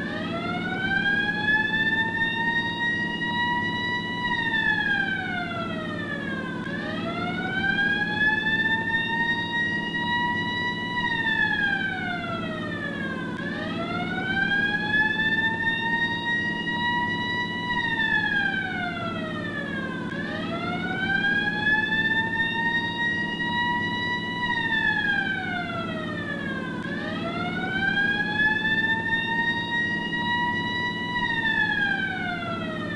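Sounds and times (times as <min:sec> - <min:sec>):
ambulance siren wailing: 0:00.0 - 0:32.9.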